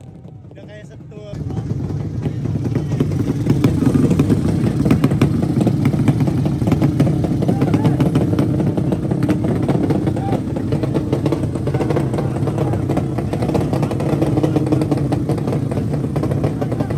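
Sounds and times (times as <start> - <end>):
motorcycle engines running loud: 0.0 - 16.9
rapid engine crackle: 0.0 - 16.9.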